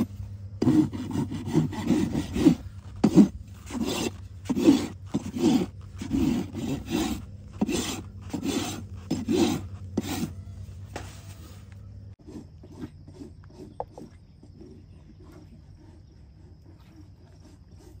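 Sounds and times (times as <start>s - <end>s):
hoof rasp filing: 0.0s - 11.5s, 12.1s - 18.0s.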